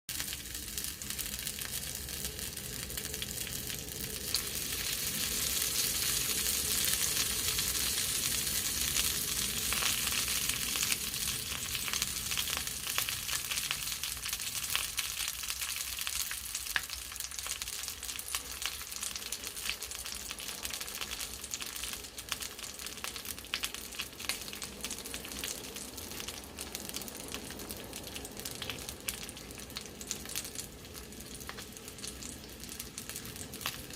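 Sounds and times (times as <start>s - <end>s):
sausages sizzling in a frying pan: 0.1s - 33.9s.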